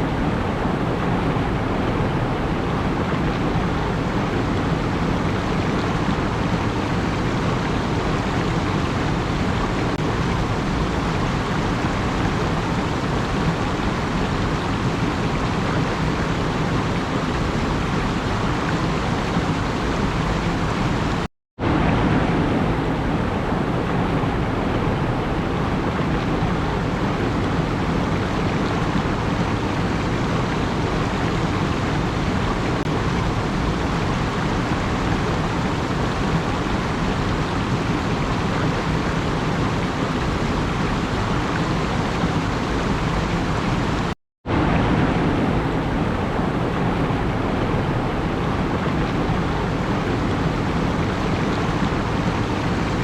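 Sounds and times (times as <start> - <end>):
steady rushing noise: 0.0 - 53.0.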